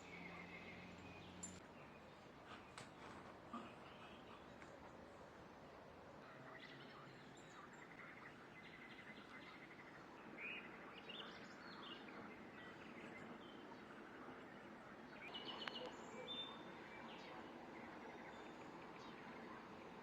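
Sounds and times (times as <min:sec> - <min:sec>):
faint birdsong trills and chirps: 0:00.0 - 0:20.0
steady outdoor hiss: 0:00.0 - 0:20.0.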